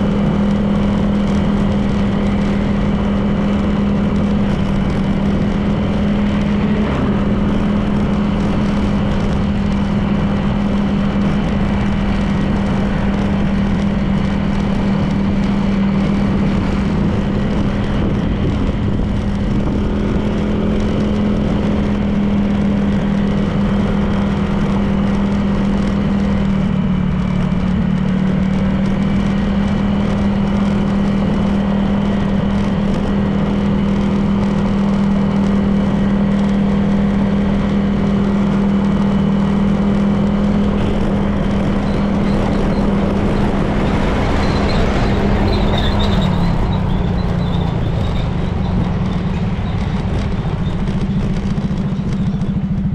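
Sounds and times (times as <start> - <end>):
scooter engine cruising: 0.0 - 52.9
wind and tyre noise: 0.0 - 52.9.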